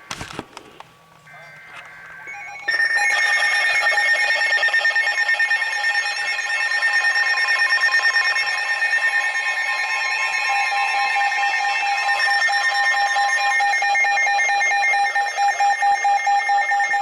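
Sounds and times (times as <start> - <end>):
electronic alarm tone pulsing: 1.3 - 17.0.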